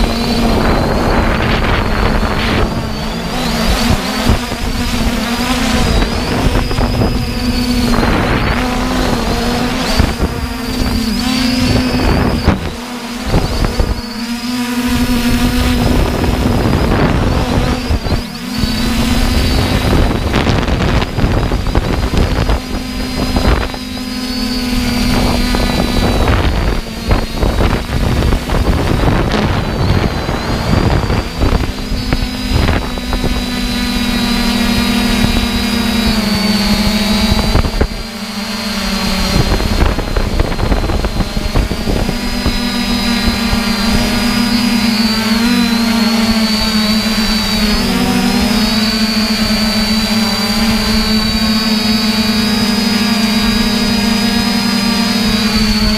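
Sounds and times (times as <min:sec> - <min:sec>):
drone motors whining: 0:00.0 - 0:55.9
wind noise on microphone: 0:00.0 - 0:55.9.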